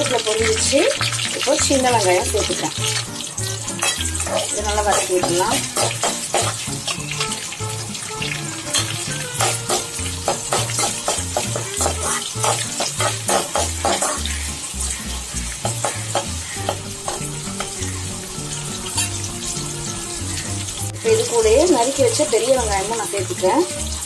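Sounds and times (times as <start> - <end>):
food sizzling in hot oil: 0.0 - 24.0
spoon scraping a pan: 1.0 - 21.0.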